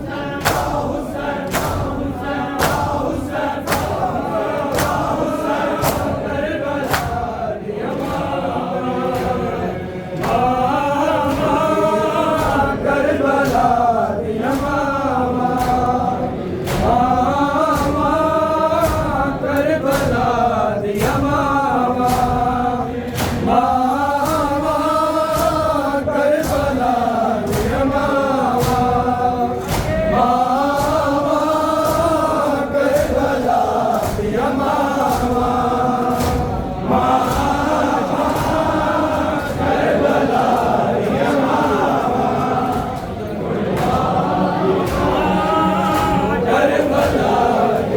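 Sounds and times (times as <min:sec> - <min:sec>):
men chanting a lament: 0:00.0 - 0:47.9
sharp regular beats: 0:00.0 - 0:47.9.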